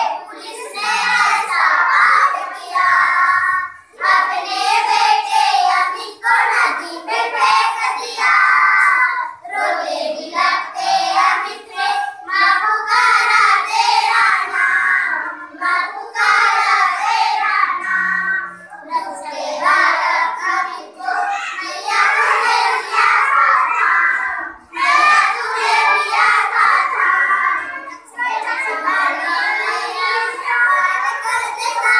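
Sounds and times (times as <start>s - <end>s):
girls singing together: 0.0s - 31.9s.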